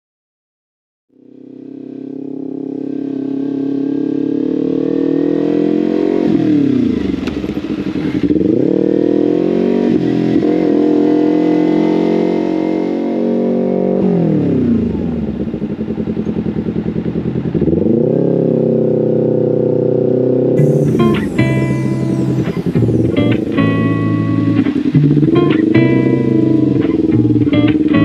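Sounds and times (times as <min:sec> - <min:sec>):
motorcycle engine running: 0:01.1 - 0:28.0.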